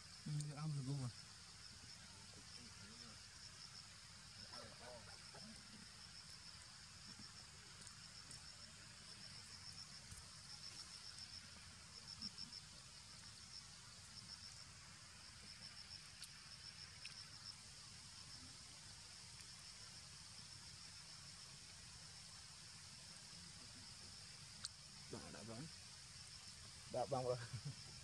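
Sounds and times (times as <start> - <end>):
faint insect trilling: 0.0 - 28.0.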